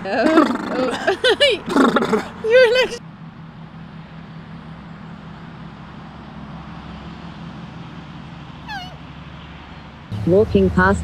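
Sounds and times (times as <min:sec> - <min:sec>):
distant road traffic hum: 0:00.0 - 0:11.0.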